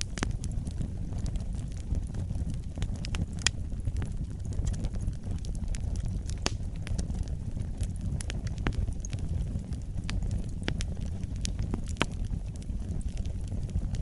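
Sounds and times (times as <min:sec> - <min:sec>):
fire crackles and pops: 0:00.0 - 0:14.0
flames rumbling: 0:00.0 - 0:14.0.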